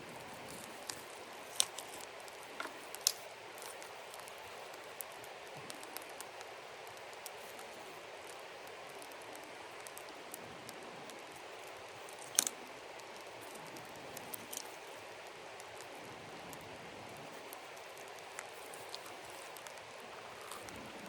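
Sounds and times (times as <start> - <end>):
campfire crackling: 0.0 - 21.0
fire pops: 0.1 - 21.0.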